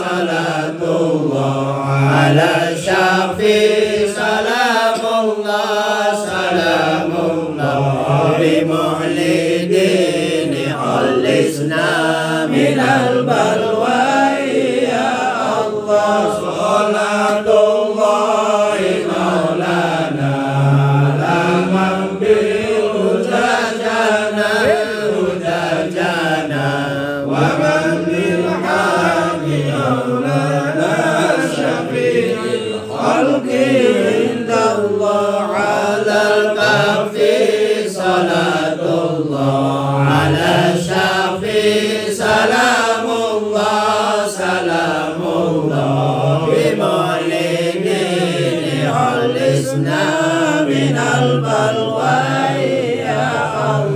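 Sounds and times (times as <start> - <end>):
men chanting a devotional song: 0.0 - 53.9.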